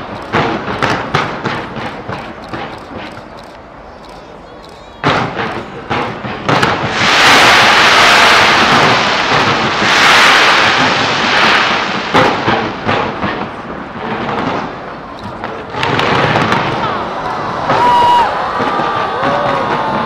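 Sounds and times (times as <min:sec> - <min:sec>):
fireworks bangs: 0:00.0 - 0:03.4, 0:05.0 - 0:20.0
fireworks hissing crackle: 0:00.0 - 0:03.6, 0:05.0 - 0:20.0.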